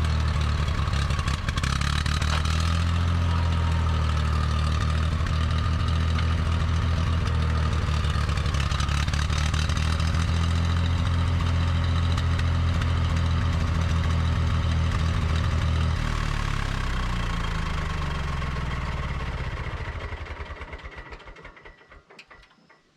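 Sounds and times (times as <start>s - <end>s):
tractor engine running: 0.0s - 22.5s.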